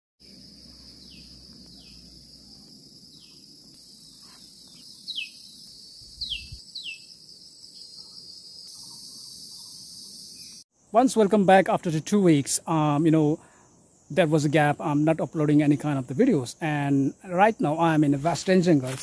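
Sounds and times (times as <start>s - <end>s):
insect chorus: 0.2s - 19.0s.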